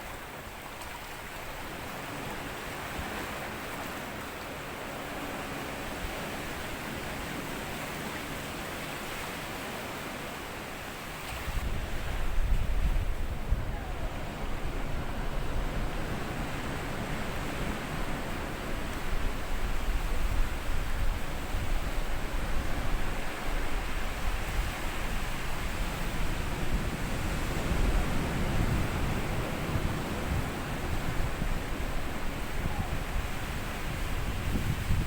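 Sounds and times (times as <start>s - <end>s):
small waves washing on a beach: 0.0s - 35.0s.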